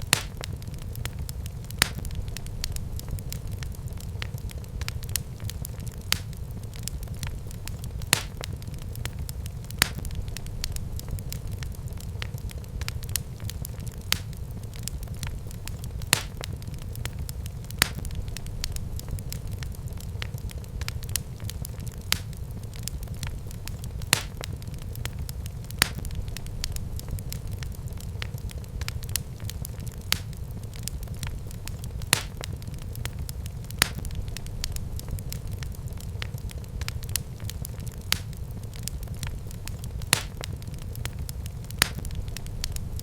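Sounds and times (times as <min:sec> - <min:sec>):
fire rumbling in fireplace: 0:00.0 - 0:43.0
wood fire crackling and popping: 0:00.0 - 0:43.0.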